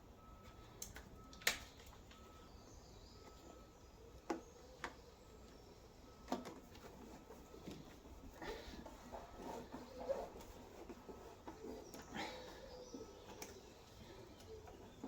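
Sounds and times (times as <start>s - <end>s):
faint workshop background: 0.0s - 15.0s
tools clicking and tapping on panels: 0.4s - 2.3s, 3.2s - 15.0s.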